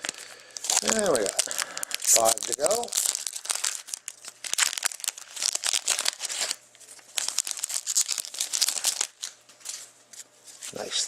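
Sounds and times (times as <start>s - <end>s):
card pack wrapper crinkling and tearing: 0.0s - 9.8s.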